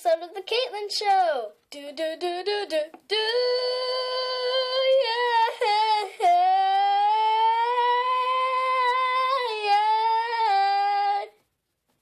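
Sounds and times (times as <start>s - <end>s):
solo voice singing wordless tune: 1.7s - 11.4s.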